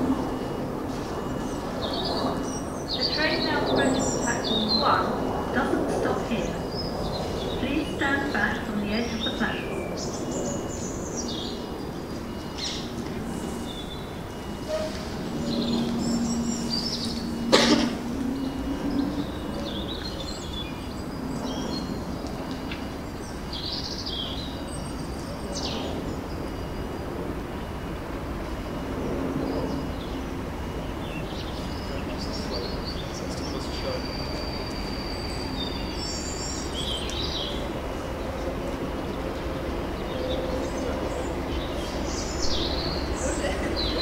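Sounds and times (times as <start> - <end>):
diesel locomotive rumble: 0.0 - 44.0
small birds chirping: 0.2 - 27.7, 29.4 - 44.0.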